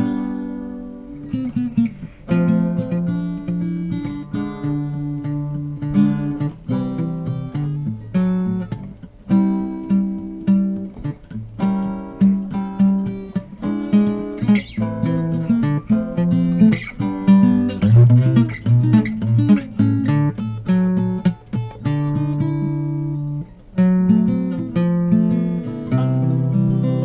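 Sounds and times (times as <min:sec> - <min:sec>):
acoustic guitar music: 0:00.0 - 0:27.0.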